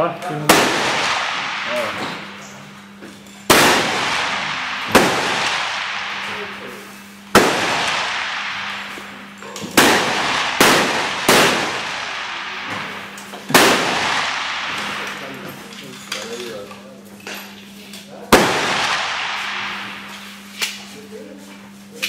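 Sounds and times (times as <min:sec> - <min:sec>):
rifle shots echoing: 0:00.5 - 0:15.7, 0:18.3 - 0:20.8.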